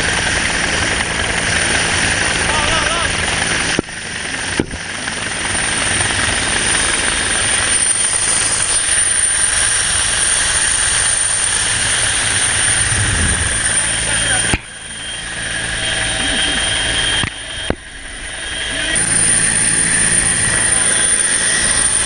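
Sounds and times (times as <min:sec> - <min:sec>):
helicopter running: 0:00.0 - 0:22.0.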